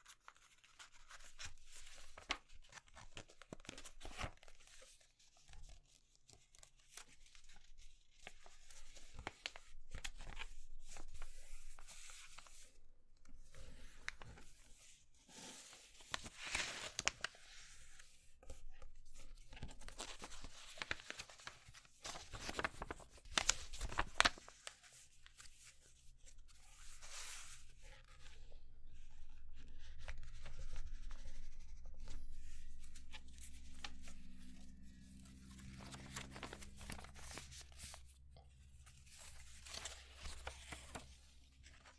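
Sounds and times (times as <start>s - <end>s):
paper crackling along folds: 0.0s - 12.7s, 13.5s - 26.0s, 30.0s - 38.1s, 39.0s - 41.9s
paper rustling and crinkling: 0.0s - 12.7s, 13.4s - 28.6s, 29.6s - 41.9s.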